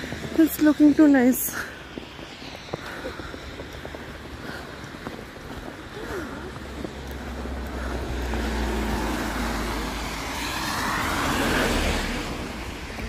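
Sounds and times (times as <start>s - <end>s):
vehicle passing on wet road: 0.0s - 13.0s.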